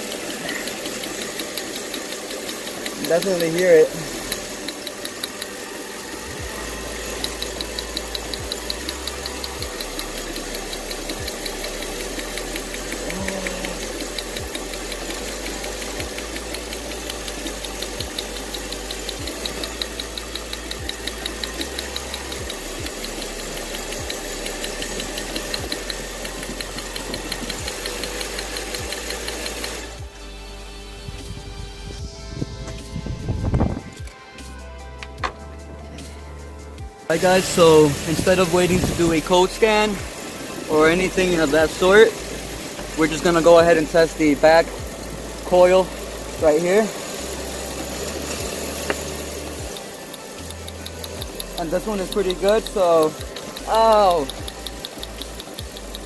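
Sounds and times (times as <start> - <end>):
rapid engine ticking: 0.0 - 30.2, 32.8 - 56.0
car engine idling unevenly: 0.0 - 56.0
music: 0.0 - 56.0.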